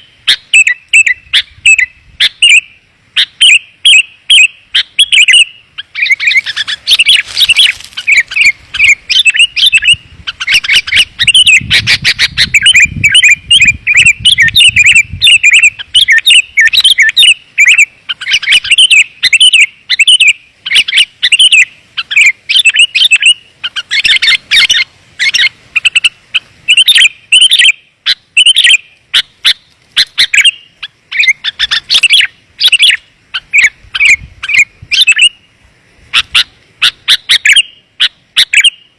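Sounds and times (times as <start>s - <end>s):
bulbul chirping: 0.0s - 35.4s, 36.2s - 38.9s.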